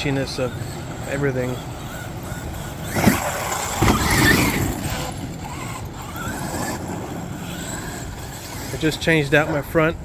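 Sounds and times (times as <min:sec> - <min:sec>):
toy truck motor whine: 0:00.0 - 0:09.3
tyre noise: 0:00.0 - 0:10.0.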